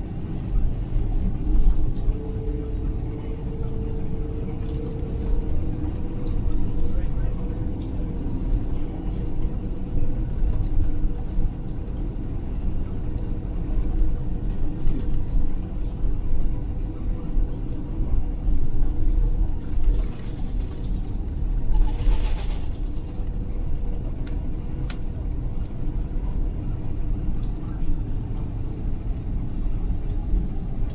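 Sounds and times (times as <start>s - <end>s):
aircraft cabin rumble: 0.0s - 30.9s.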